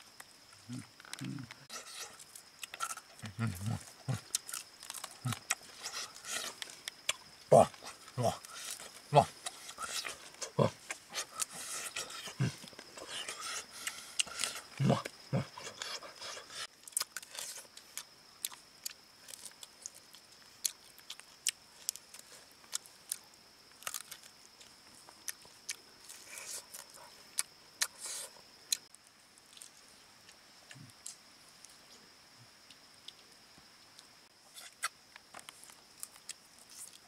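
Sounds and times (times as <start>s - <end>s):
crunchy chewing: 0.2s - 31.8s, 34.0s - 37.0s.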